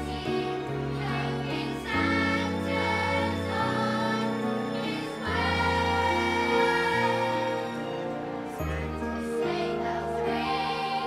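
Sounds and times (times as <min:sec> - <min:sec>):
children's choir singing: 0:00.0 - 0:11.0
instrumental backing music: 0:00.0 - 0:11.0.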